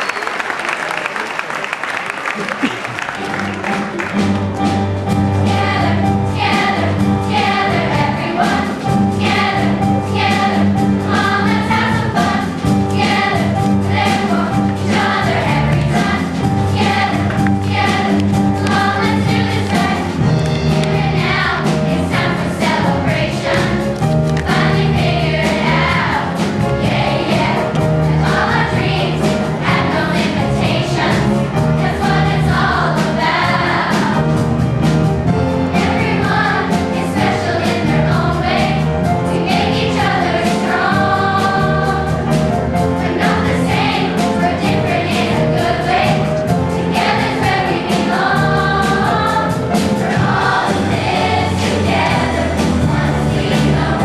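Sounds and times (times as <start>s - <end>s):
youth choir singing: 5.4s - 34.4s, 35.7s - 54.0s.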